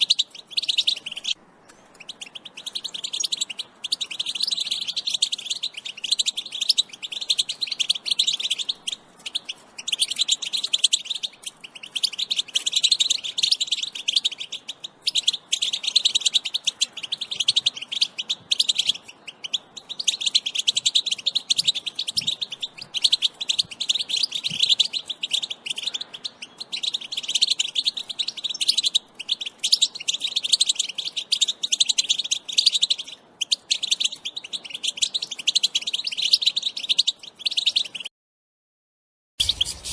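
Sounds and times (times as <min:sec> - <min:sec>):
goldfinch twittering: 0:00.0 - 0:38.1.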